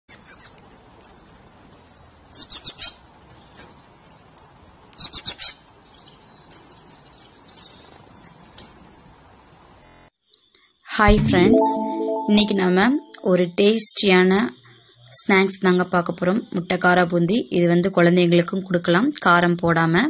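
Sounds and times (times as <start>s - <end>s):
faint outdoor background: 0.1s - 20.0s.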